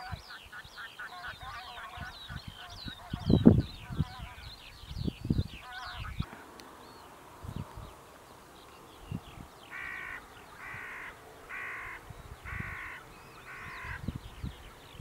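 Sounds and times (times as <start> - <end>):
large bird calling: 0.0 - 15.0
songbirds chirping: 0.0 - 15.0.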